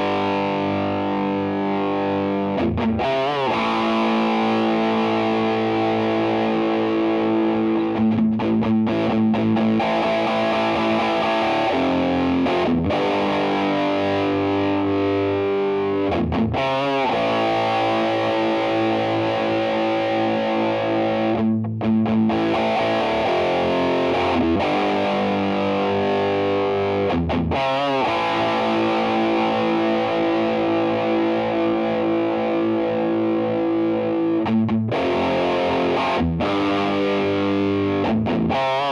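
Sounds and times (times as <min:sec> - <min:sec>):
distorted electric guitar chords: 0:00.0 - 0:38.9.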